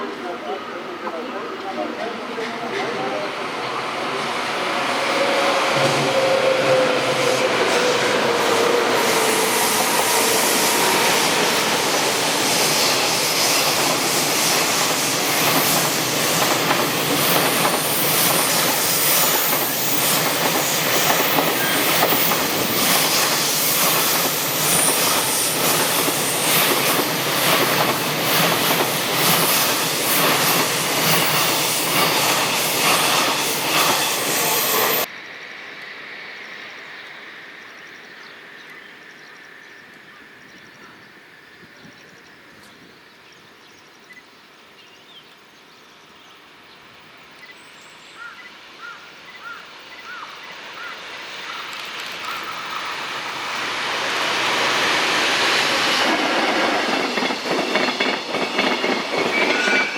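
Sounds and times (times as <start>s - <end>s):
freight train passing: 0.0s - 42.5s, 46.5s - 59.9s.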